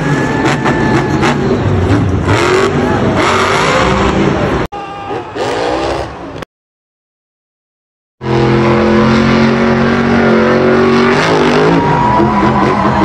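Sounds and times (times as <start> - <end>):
monster truck engine revving: 0.0 - 6.4, 8.2 - 13.0.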